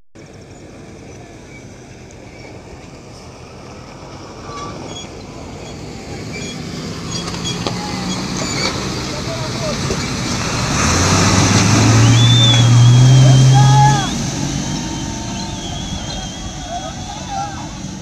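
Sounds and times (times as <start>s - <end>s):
diesel truck engine running: 0.2s - 18.0s.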